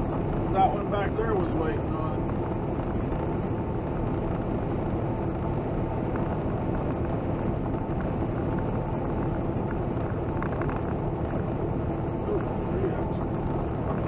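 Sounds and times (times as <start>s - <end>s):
truck engine drone: 0.0s - 14.0s
tyre and road noise: 0.0s - 14.0s.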